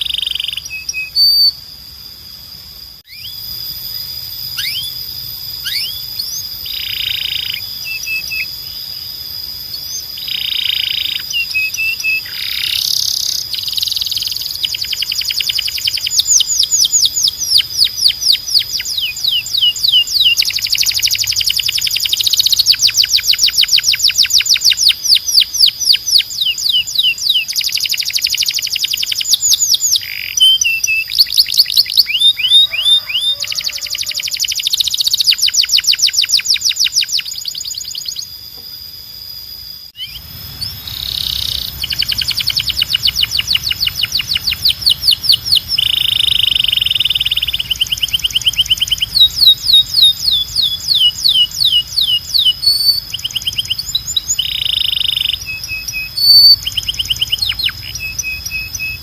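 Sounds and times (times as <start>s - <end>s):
canary singing trills: 0.0s - 1.7s, 3.1s - 38.6s, 39.9s - 59.0s.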